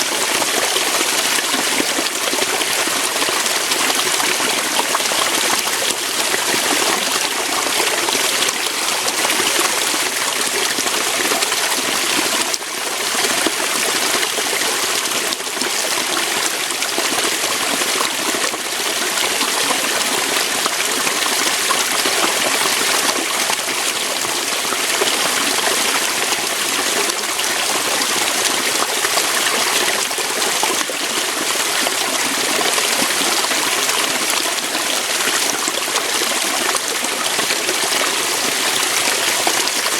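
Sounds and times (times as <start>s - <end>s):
waterfall pouring over rocks: 0.0s - 39.9s.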